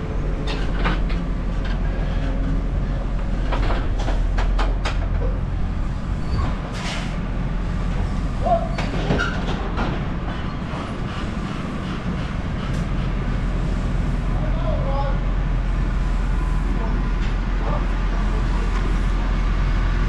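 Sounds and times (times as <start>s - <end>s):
tractor engine drone: 0.0s - 20.0s.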